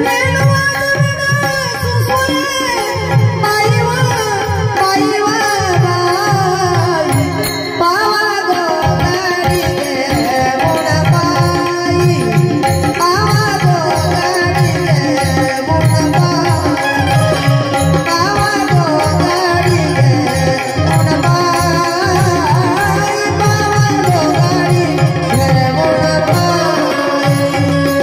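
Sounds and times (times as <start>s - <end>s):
bulbul tarang melody: 0.0s - 28.0s
tabla rhythm: 0.0s - 28.0s
woman singing: 0.0s - 28.0s.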